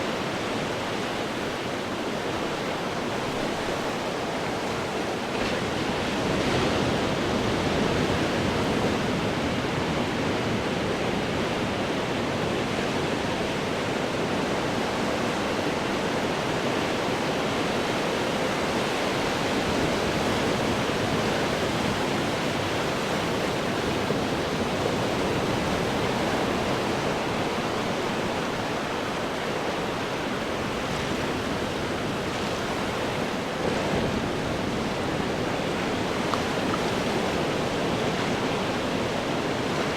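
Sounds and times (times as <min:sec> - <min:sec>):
ocean waves breaking on rocks: 0:00.1 - 0:39.9.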